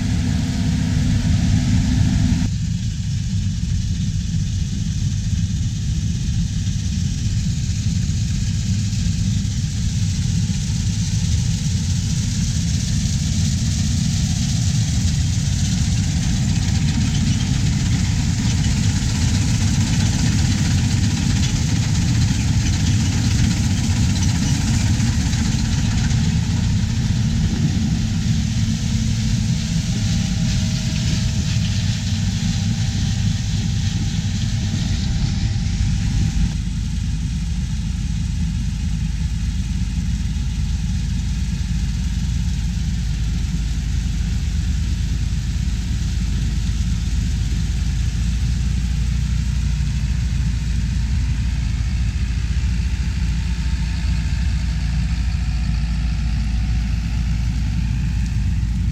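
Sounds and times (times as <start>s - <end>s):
harvest machinery engine running: 0.0s - 2.6s, 4.4s - 58.9s.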